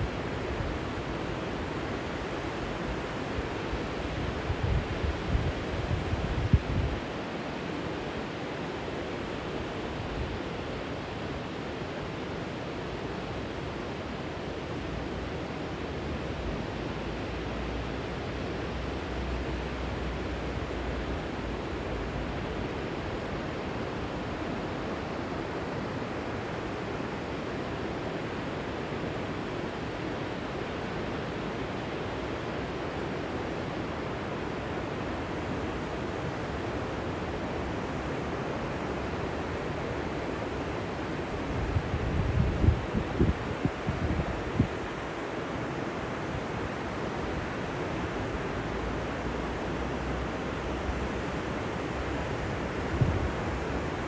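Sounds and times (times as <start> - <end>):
river water pouring over weir: 0.0 - 54.0.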